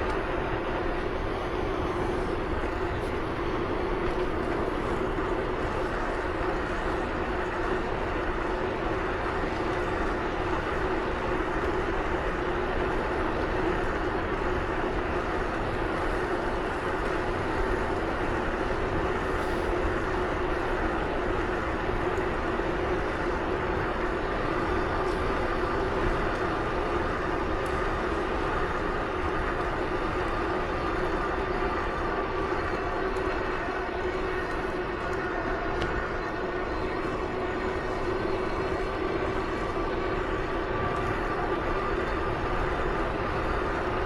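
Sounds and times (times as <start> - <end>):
constant vehicle drone: 0.0 - 44.0.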